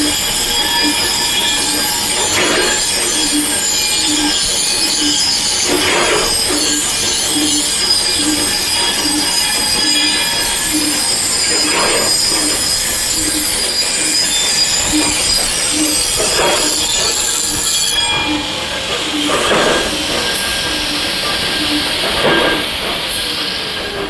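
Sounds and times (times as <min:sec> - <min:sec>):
high-pitched machinery whines: 0:00.0 - 0:24.0
low machine pulse: 0:00.0 - 0:24.0.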